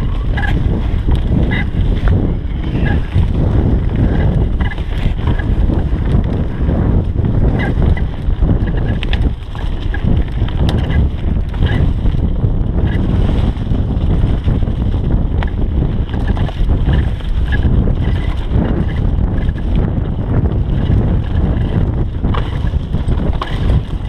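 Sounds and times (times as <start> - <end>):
bike clicks and knocks: 0.0 - 24.0
wind rushing over microphone: 0.0 - 24.0
tyres rolling over dirt and leaves: 0.3 - 24.0.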